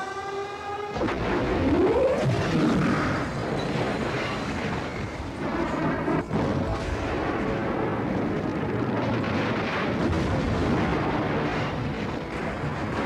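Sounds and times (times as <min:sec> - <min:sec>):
cartoon explosions rumbling: 0:00.9 - 0:13.0.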